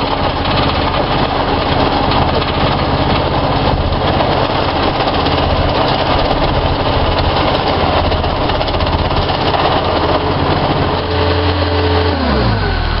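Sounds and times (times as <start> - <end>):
loader engine running: 0.0 - 13.0
plate compactor vibrating on gravel: 0.0 - 13.0.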